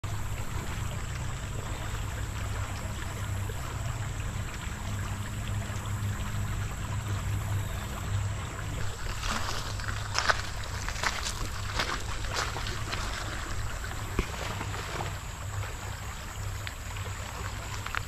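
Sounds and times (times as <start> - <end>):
water trickling over gravel: 0.0 - 18.0.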